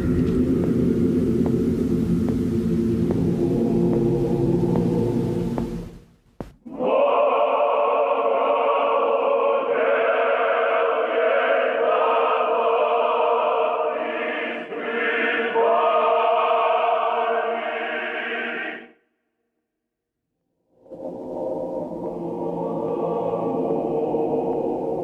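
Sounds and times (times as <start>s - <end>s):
choir singing held chords: 0.0s - 6.0s, 6.6s - 19.0s, 20.8s - 25.0s.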